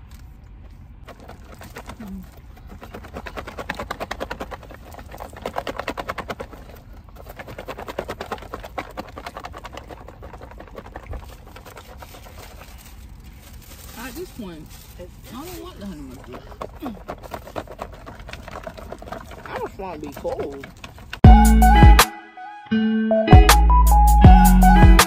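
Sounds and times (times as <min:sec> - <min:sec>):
salad rattling in plastic container: 0:00.6 - 0:21.2.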